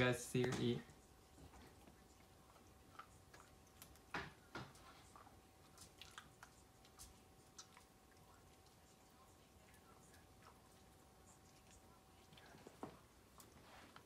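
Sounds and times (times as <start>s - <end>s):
dog chewing a treat: 0.8s - 14.0s.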